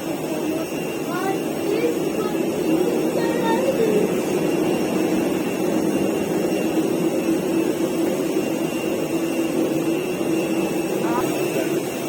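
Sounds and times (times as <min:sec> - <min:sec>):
aircraft cabin rushing hum: 0:00.0 - 0:12.0.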